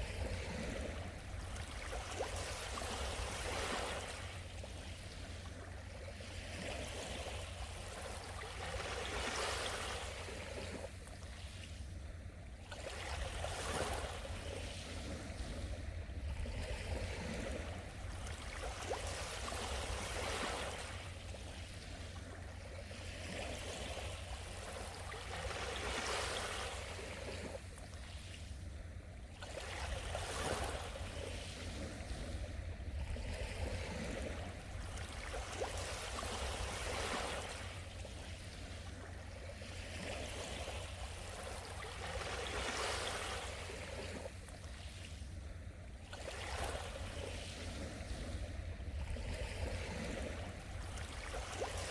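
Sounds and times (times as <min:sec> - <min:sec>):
sea waves washing ashore: 0:00.0 - 0:51.9.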